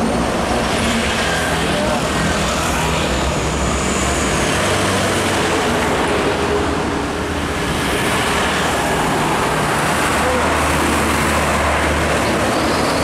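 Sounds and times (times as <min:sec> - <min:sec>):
highway traffic passing: 0:00.0 - 0:13.0.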